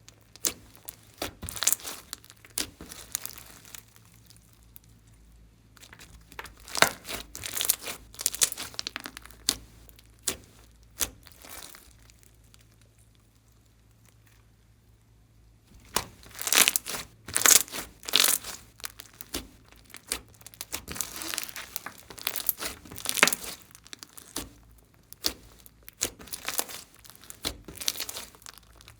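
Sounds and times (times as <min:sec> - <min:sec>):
slime squishing with sticky pops: 0:00.0 - 0:05.2, 0:05.8 - 0:14.5, 0:15.7 - 0:28.9.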